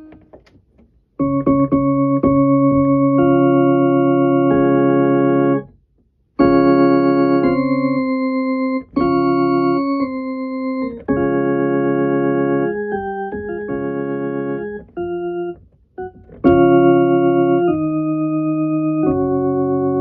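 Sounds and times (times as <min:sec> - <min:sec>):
electric keyboard organ chords: 0:01.2 - 0:05.7, 0:06.4 - 0:20.0.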